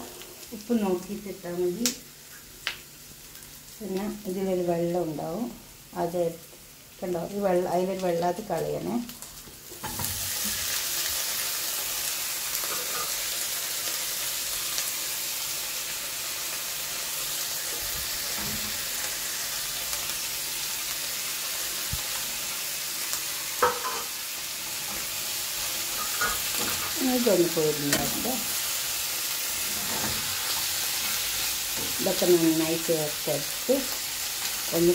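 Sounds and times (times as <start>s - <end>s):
food sizzling in oil: 0.0s - 34.9s.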